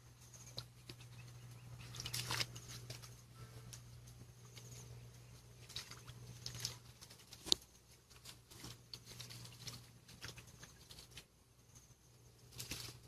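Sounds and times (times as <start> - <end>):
sticks and leaves crackling: 0.4 - 11.3, 12.4 - 13.0.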